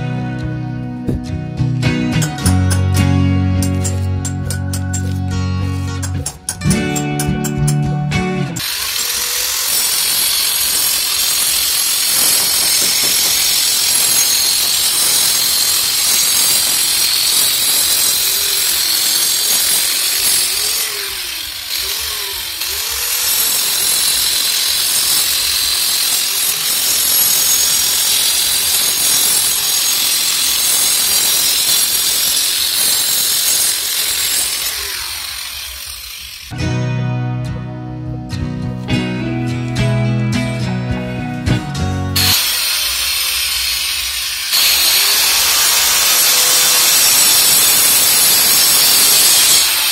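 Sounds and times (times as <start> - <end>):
angle grinder cutting brick: 2.2 - 7.9, 8.5 - 36.6, 42.1 - 49.9.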